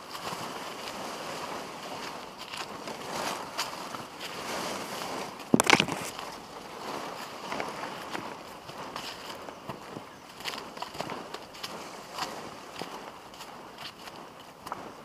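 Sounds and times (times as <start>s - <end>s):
footsteps in dry leaves: 0.0s - 15.0s.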